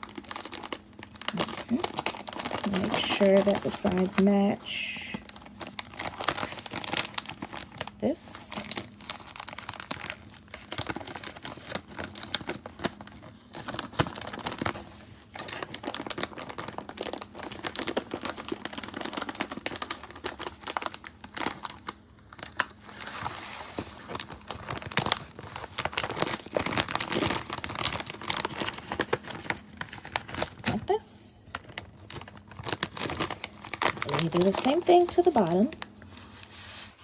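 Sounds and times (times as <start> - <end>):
paper crinkling and rustling: 0.0 - 37.0.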